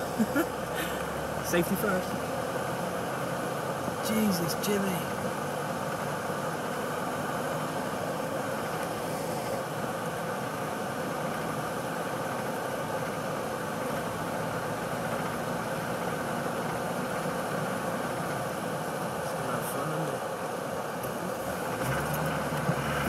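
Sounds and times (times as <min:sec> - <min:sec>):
car engine drone: 0:00.0 - 0:23.0
road noise: 0:00.0 - 0:23.0.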